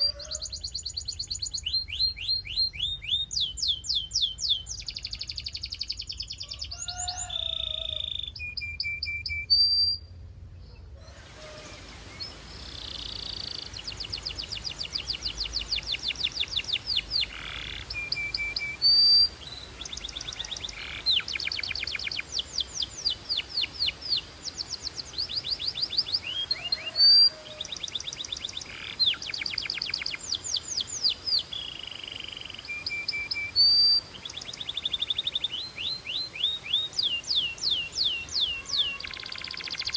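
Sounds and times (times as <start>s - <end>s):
canary singing trills: 0.0s - 10.1s, 11.1s - 39.9s.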